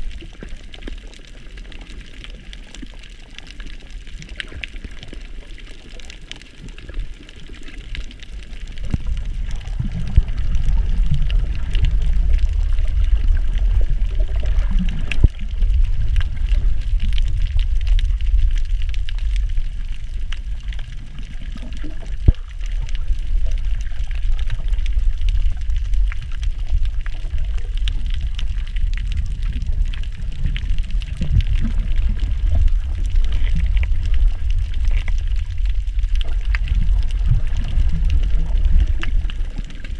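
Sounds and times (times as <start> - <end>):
muffled underwater rumble: 0.0 - 39.9
faint clicks: 0.1 - 39.9.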